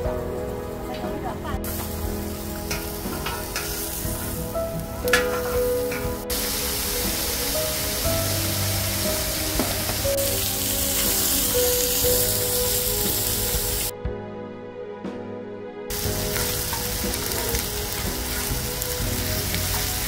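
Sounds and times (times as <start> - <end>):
background music: 0.0 - 20.0
meat sizzling on a griddle: 1.6 - 13.9, 15.9 - 20.0.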